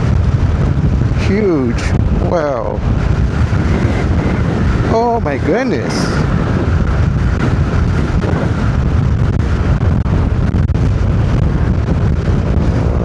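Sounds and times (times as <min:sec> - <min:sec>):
road noise: 0:00.0 - 0:13.0
strong wind on microphone: 0:00.0 - 0:13.0.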